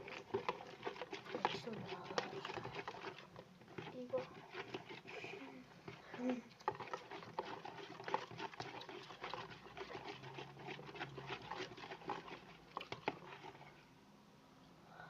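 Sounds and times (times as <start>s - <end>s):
slime squelching: 0.0s - 13.8s.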